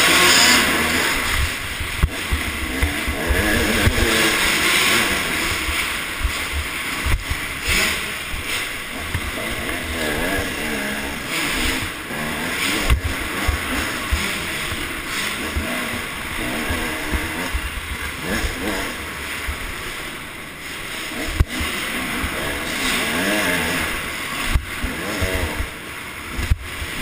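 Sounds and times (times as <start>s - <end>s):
motocross engine revving: 0.0s - 27.0s.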